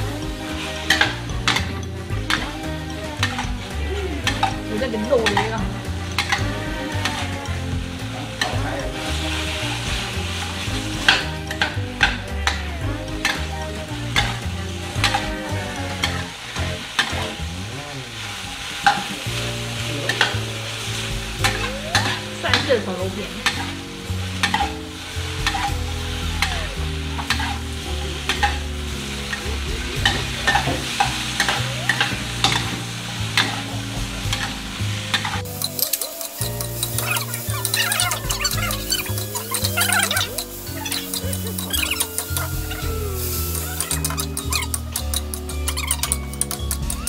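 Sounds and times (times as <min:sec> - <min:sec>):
metal spatula scraping a pan: 0:00.0 - 0:12.6, 0:13.2 - 0:17.5, 0:18.4 - 0:47.0
meat and peppers sizzling in a wok: 0:00.0 - 0:47.0.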